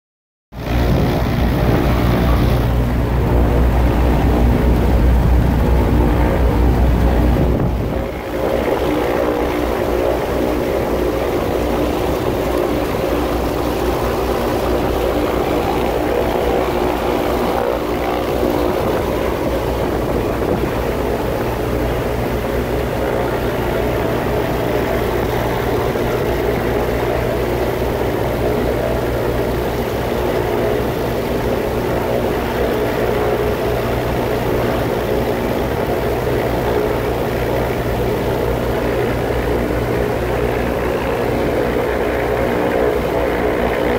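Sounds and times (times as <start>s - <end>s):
light aircraft engine and propeller: 0.5s - 43.9s.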